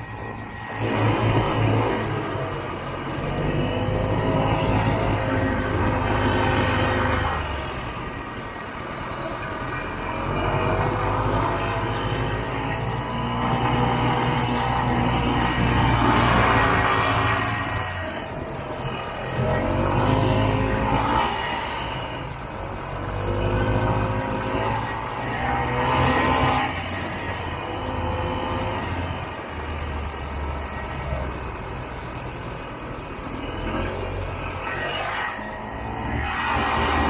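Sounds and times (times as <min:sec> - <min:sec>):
snowmobile engine revving: 0:00.0 - 0:08.3, 0:09.8 - 0:31.0, 0:33.4 - 0:37.0.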